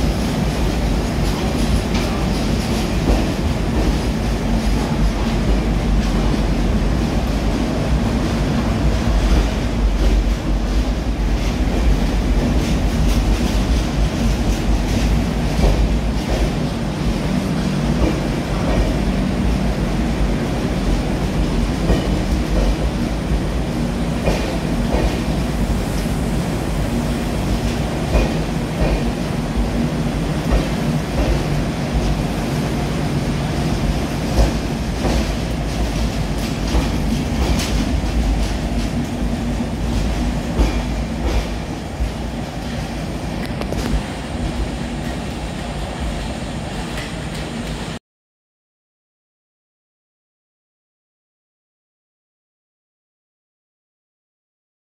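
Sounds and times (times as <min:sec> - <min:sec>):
train wheel and rail rumble: 0:00.0 - 0:48.0.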